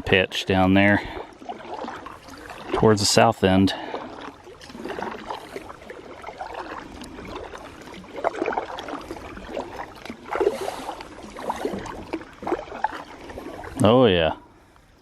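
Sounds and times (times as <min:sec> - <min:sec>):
paddle splashing in water: 0:00.0 - 0:14.1
water trickling off paddle: 0:00.0 - 0:15.0.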